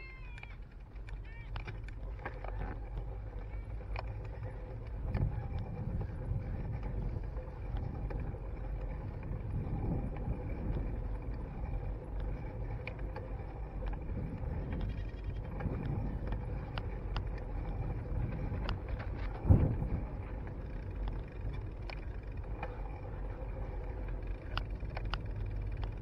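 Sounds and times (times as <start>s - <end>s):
light ticks and rattles: 0.0s - 26.0s
tyre and wind rumble: 0.0s - 26.0s.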